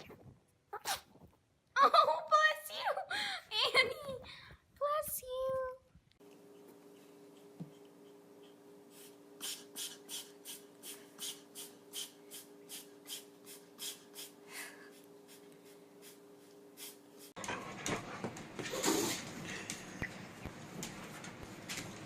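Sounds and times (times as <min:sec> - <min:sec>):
electrical hum: 0:03.1 - 0:22.0.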